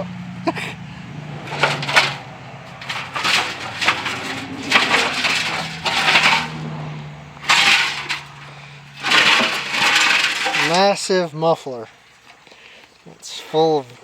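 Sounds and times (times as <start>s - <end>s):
metal exhaust pipe scraping and clanking: 0.0s - 11.3s.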